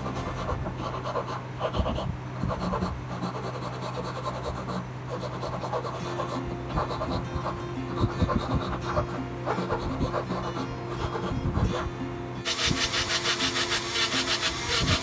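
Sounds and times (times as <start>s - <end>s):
rubbing and scraping strokes: 0.0s - 11.9s, 12.5s - 15.0s
steady low hum: 0.0s - 15.0s.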